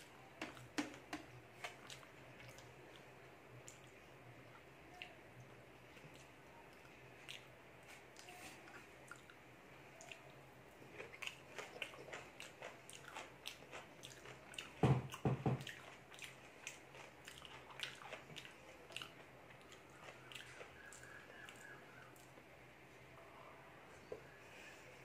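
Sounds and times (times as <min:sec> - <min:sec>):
close chewing: 0:01.5 - 0:22.5.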